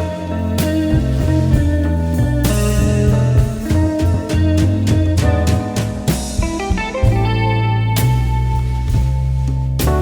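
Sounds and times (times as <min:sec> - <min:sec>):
guitar-led instrumental music: 0:00.0 - 0:10.0.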